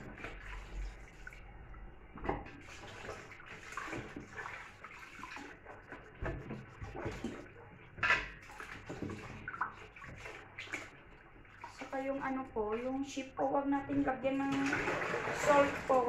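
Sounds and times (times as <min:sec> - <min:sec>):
water splashing in a metal pot: 0:00.0 - 0:16.0.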